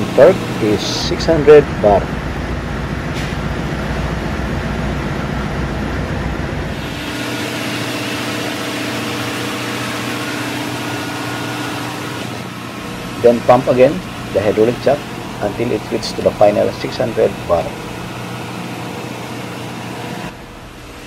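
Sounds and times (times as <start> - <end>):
engine room deep rumble: 0.0 - 21.0
engine room machinery hum: 0.0 - 21.0.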